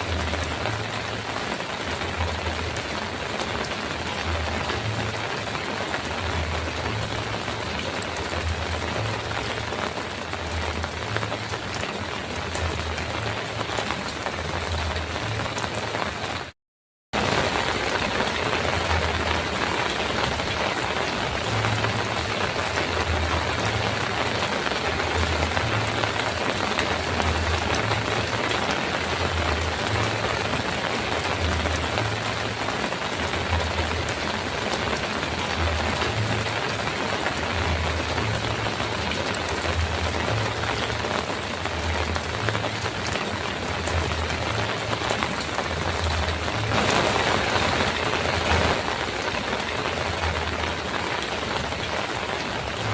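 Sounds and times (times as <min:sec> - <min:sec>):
heavy rain on a metal roof: 0:00.0 - 0:52.9.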